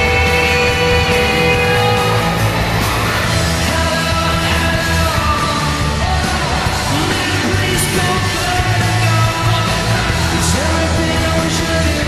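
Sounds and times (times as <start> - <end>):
rock song with yelled vocals: 0.0 - 12.0.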